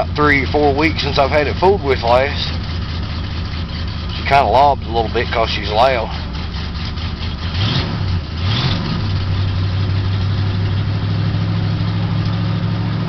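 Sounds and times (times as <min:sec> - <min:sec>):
car engine idling loud: 0:00.0 - 0:13.0.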